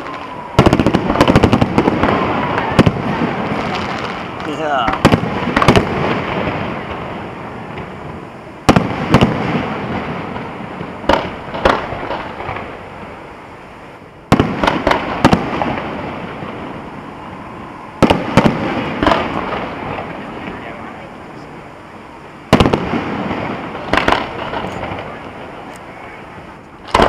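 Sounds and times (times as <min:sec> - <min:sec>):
fireworks booming: 0:00.0 - 0:27.0
rumble and crackle: 0:00.0 - 0:27.0.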